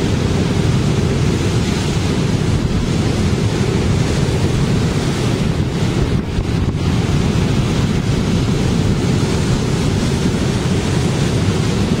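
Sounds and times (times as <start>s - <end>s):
surf breaking on seawall: 0.0s - 12.0s
wind buffeting microphone: 0.0s - 12.0s.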